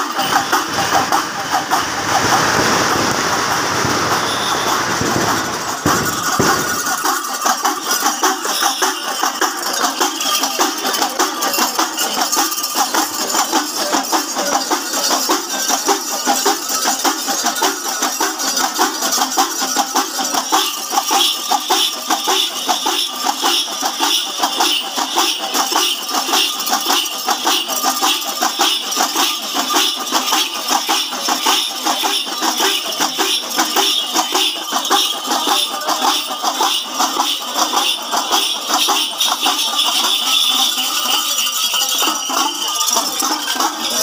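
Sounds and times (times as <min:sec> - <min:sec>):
hourglass drums playing fast rhythm: 0:00.0 - 0:44.0
metallic jingling and clashing: 0:00.0 - 0:44.0.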